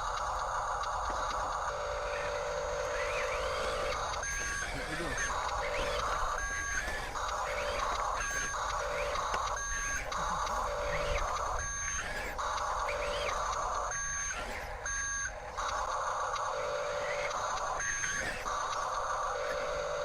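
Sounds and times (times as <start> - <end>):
electronic reversing beeps: 0.0 - 20.0.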